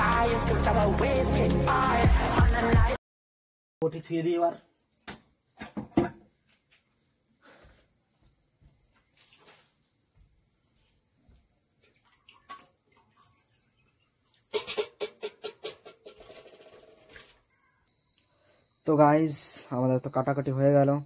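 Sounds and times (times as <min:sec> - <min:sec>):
crickets chirping: 0:03.8 - 0:21.0.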